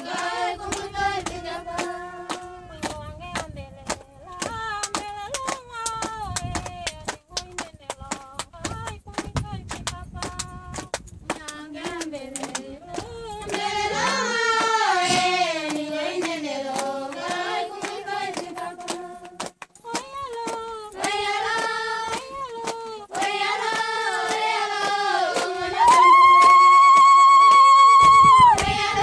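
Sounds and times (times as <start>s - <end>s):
women singing together: 0.0s - 29.0s
hand clapping: 0.1s - 28.8s.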